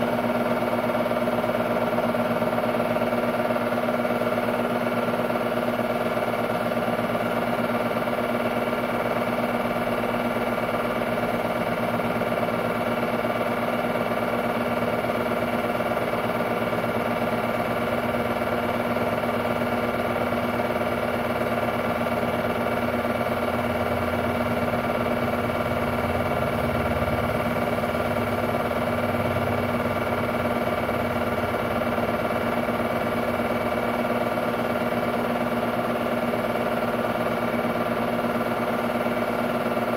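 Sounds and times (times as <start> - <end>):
film projector hum and whirr: 0.0 - 39.9.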